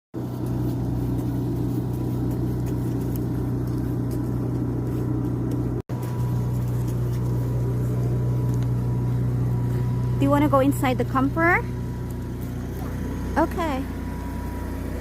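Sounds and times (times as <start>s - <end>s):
low engine hum: 0.2s - 15.0s.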